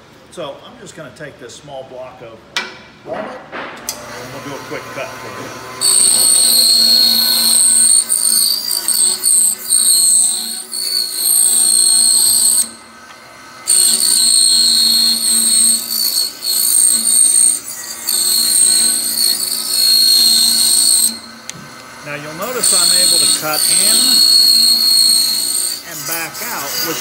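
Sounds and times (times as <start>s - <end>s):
bandsaw whining: 3.9s - 27.0s.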